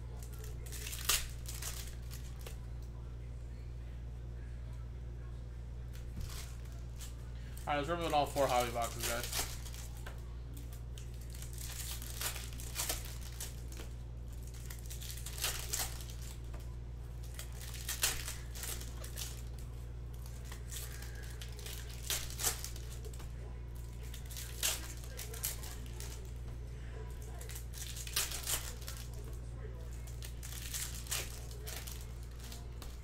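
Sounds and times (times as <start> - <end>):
steady low hum: 0.0 - 33.0
plastic wrap crinkling and ripping: 0.1 - 2.6, 6.2 - 16.6, 17.2 - 26.4, 27.0 - 33.0.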